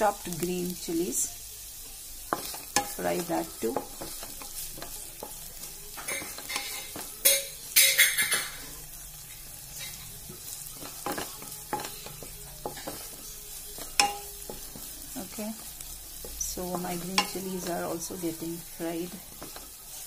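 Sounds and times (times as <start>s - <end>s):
garlic sizzling in butter: 0.0s - 20.0s
spatula scraping and knocking pan: 2.2s - 20.0s.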